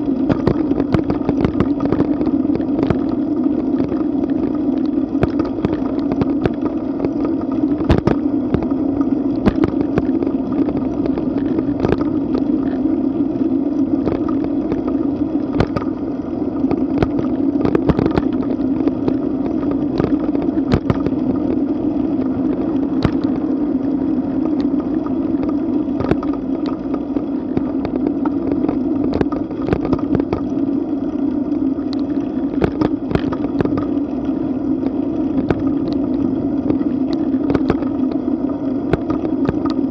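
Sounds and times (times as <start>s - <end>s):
sharp clicks and knocks from bumps: 0.2s - 3.2s, 3.8s - 12.9s, 14.0s - 16.0s, 16.6s - 21.7s, 22.5s - 23.5s, 25.4s - 30.6s, 31.9s - 34.1s, 34.8s - 39.9s.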